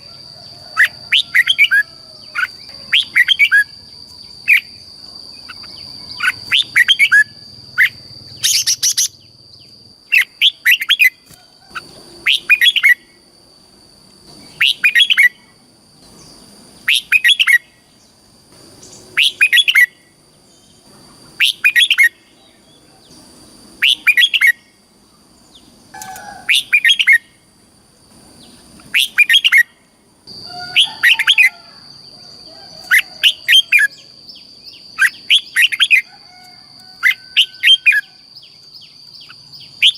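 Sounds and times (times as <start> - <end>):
bulbul singing: 0.7 - 13.2, 14.2 - 24.8, 25.4 - 27.5, 28.4 - 31.7, 32.7 - 36.1, 37.0 - 39.9.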